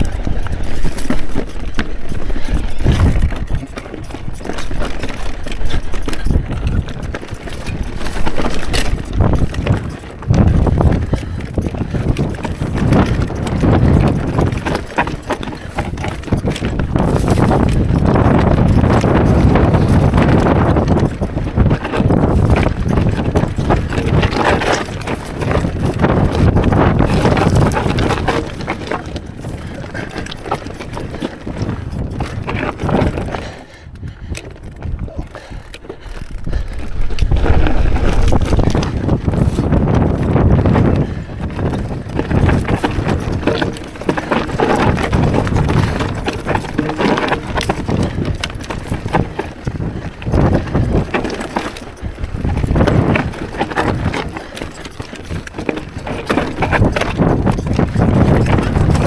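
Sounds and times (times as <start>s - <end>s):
mountain bike rattling over rocks: 0.0s - 59.0s.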